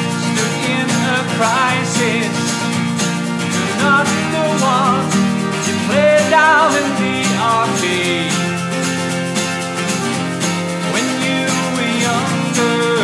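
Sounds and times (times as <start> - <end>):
man singing: 0.0 - 8.8, 10.8 - 13.0
hand shaker ticking: 0.0 - 13.0
picked acoustic guitar: 0.0 - 13.0.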